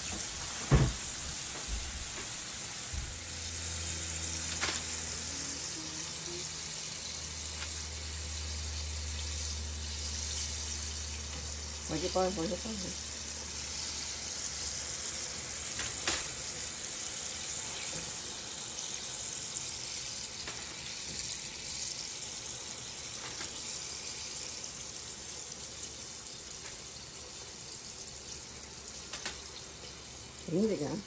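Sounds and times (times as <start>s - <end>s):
shrimp sizzling in hot oil: 0.0s - 31.0s.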